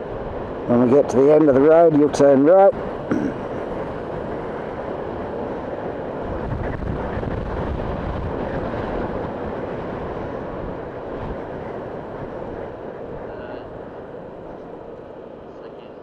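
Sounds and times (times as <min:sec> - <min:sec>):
wind rush: 0:00.0 - 0:16.0
motorcycle road noise: 0:00.6 - 0:13.7.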